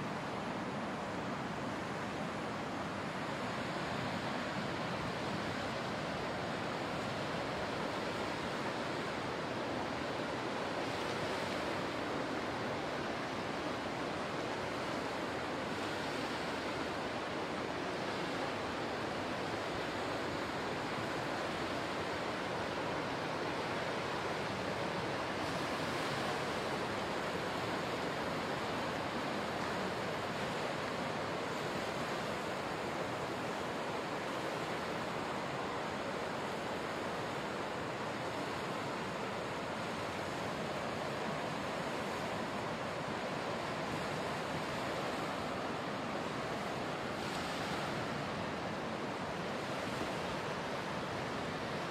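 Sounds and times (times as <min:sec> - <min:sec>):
small waves breaking on shore: 0:00.0 - 0:51.9.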